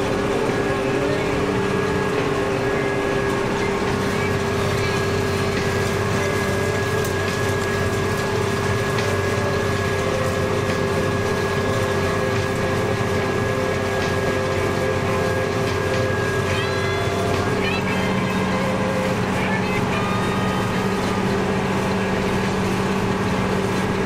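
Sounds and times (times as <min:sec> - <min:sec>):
engine drone: 0:00.0 - 0:24.0
high-pitched whine: 0:00.0 - 0:24.0.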